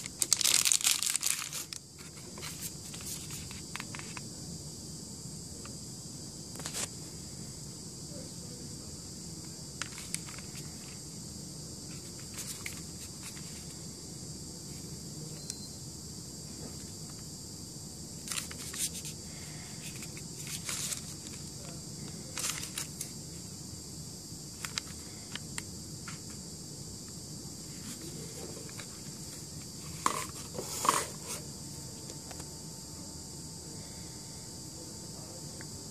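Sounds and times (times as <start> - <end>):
steady hiss: 0.0 - 35.9.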